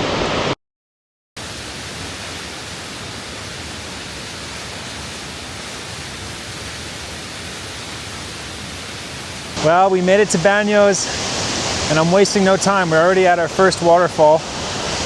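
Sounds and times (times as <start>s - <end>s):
waterfall rushing: 1.4s - 15.0s.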